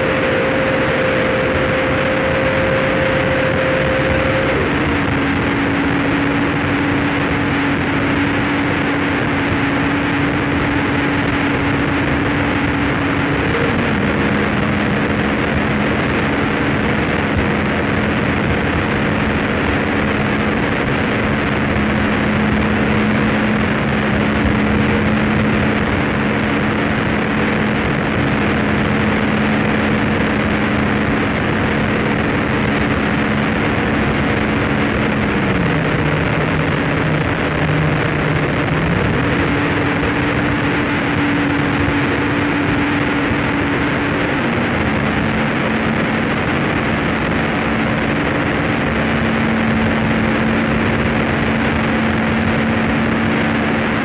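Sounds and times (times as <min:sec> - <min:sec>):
higher tone: 0:00.0 - 0:54.0
low drone: 0:00.0 - 0:54.0
wall of harsh noise: 0:00.0 - 0:54.0.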